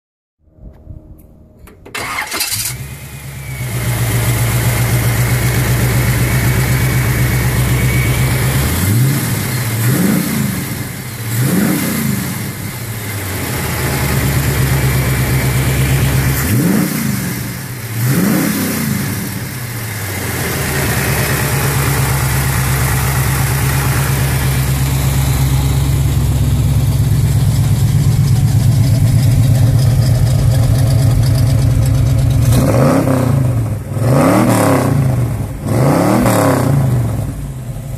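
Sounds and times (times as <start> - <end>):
car engine idling and revving: 1.9 - 37.9.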